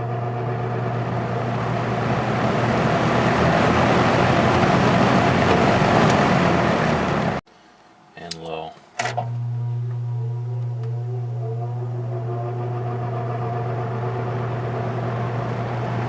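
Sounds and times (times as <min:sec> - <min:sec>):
fan motor hum: 0:00.0 - 0:07.4, 0:08.2 - 0:16.0
fan air rushing: 0:00.0 - 0:08.4, 0:10.0 - 0:16.0.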